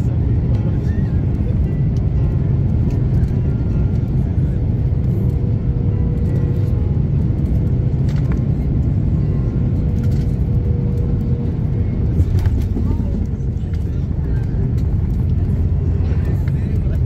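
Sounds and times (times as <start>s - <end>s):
low rumble of engines and airflow: 0.0s - 17.0s.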